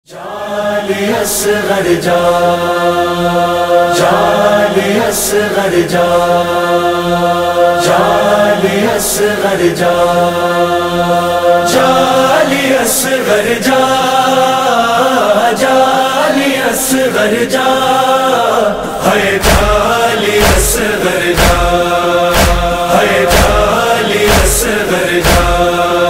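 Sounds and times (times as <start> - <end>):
voices chanting a lament: 0.0 - 26.0.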